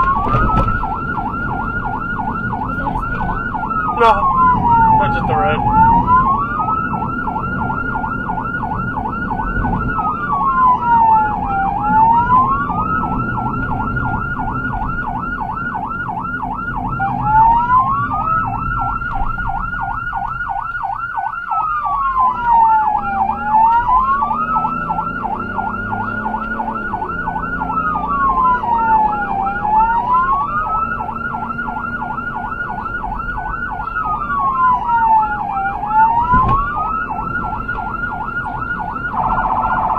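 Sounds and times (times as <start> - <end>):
vehicle engine and road noise: 0.0 - 39.9
wailing siren: 0.0 - 39.9
yelping siren: 0.0 - 39.9.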